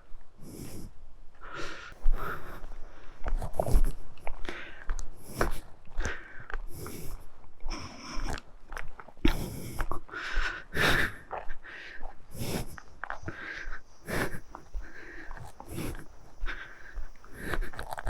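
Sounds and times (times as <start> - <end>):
person breathing heavily: 0.4 - 8.4, 9.2 - 18.0
footsteps on rough trail: 1.4 - 18.0.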